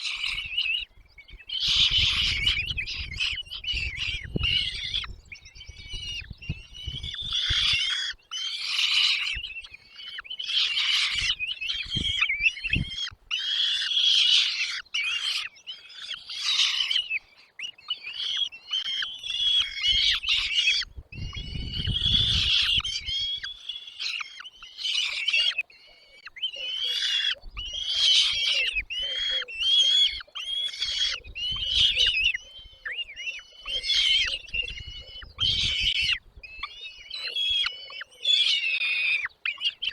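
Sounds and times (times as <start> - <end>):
chicks begging calls: 0.0 - 39.9.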